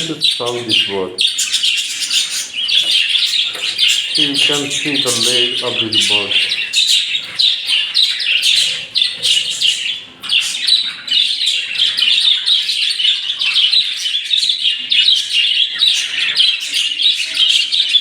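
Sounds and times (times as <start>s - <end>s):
budgerigars chattering and chirping: 0.0s - 18.0s.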